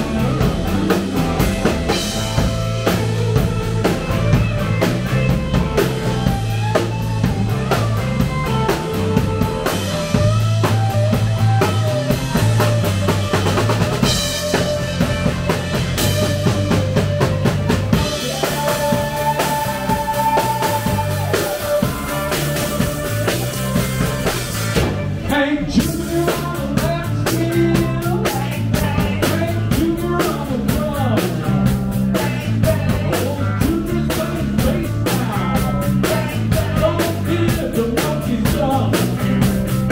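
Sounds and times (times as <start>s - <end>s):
drum kit driving beat: 0.0s - 39.9s
live rock band playing: 0.0s - 39.9s.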